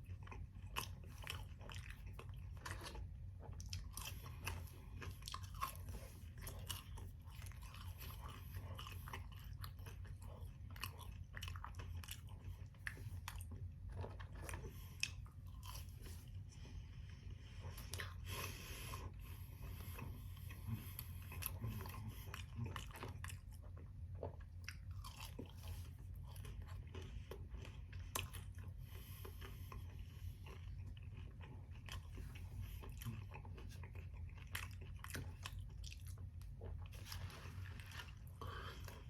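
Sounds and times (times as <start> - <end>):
chewing and biting food: 0.0 - 39.0
steady low hum: 0.0 - 39.0.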